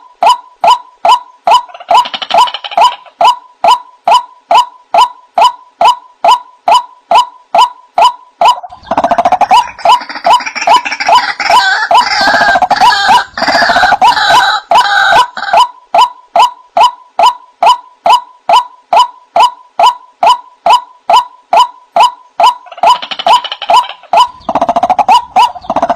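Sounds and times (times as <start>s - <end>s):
chattering chorus of bird calls: 0.0s - 25.9s.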